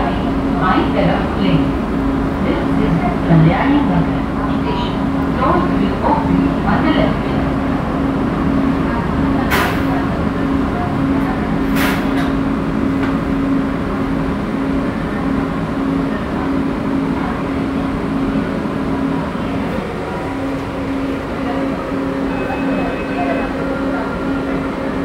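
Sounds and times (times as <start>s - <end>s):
metro train running noise: 0.0s - 25.0s.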